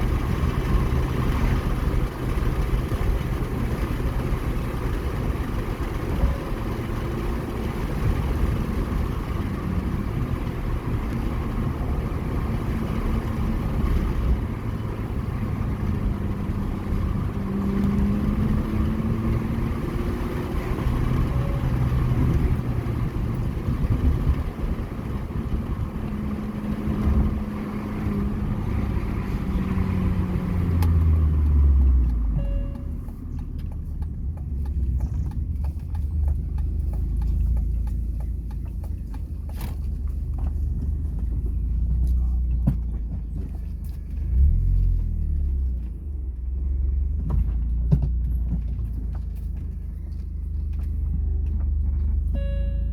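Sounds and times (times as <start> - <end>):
car engine revving: 0.0 - 52.8
road noise: 0.0 - 52.9.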